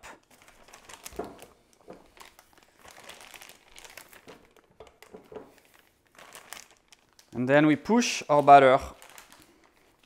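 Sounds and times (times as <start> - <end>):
plastic bag crinkling: 0.2 - 10.0.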